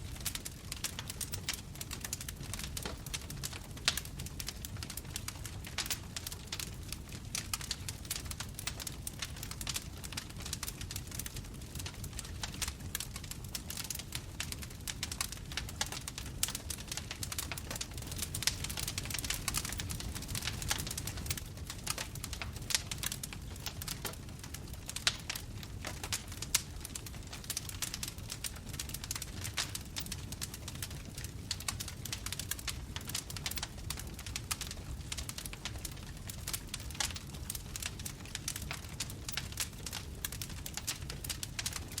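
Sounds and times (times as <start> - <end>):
bonfire pops and snaps: 0.0 - 42.0
low rumble of burning: 0.0 - 42.0.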